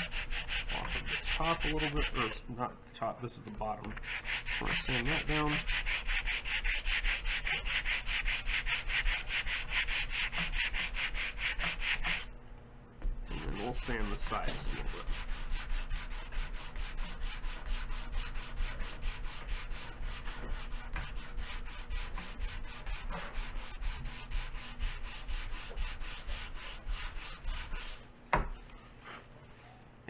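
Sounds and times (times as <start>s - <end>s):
sanding block rasping on wood: 0.0s - 2.4s, 4.0s - 12.3s, 13.3s - 28.0s.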